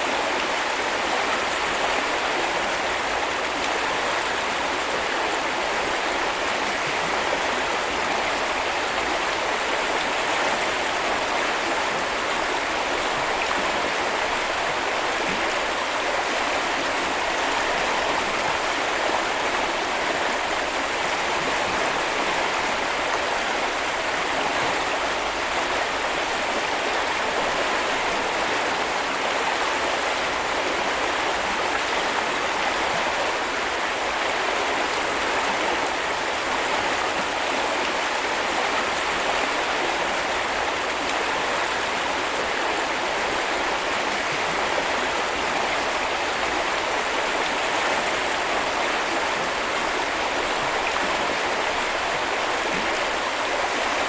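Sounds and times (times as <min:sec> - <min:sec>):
brook flowing over stones: 0:00.0 - 0:54.0.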